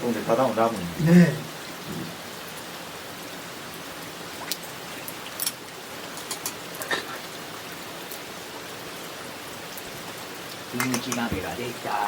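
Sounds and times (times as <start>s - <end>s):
sharp ticks of raindrops: 0.0s - 12.0s
steady rain falling: 0.0s - 12.0s.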